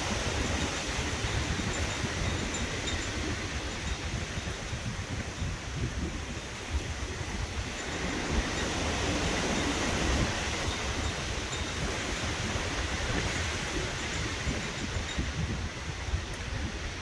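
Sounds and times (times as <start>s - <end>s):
wind roaring through trees: 0.0s - 17.0s.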